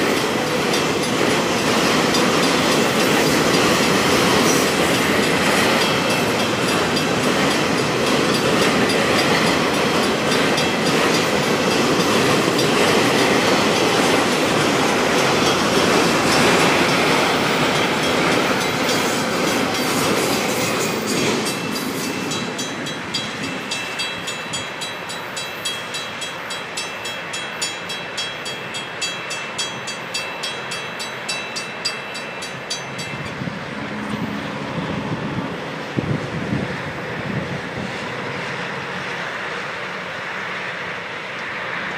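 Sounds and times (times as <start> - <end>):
crossing warning bell ringing: 0.0 - 35.2
freight train wheels clattering: 0.0 - 39.7.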